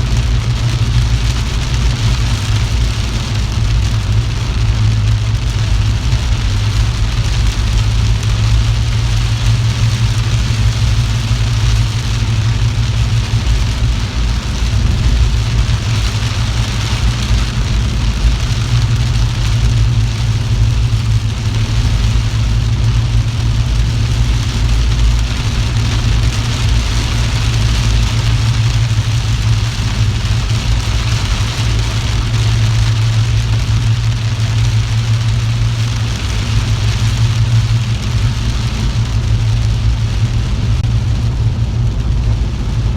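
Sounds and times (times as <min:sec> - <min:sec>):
engine and road rumble: 0:00.0 - 0:42.9
rain and wet tyres hissing: 0:00.0 - 0:42.9.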